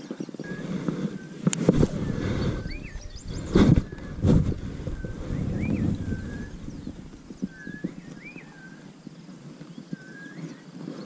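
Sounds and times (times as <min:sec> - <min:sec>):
wind rumble on microphone: 0:00.0 - 0:11.0
bird whistled call: 0:00.1 - 0:09.0, 0:09.7 - 0:10.7.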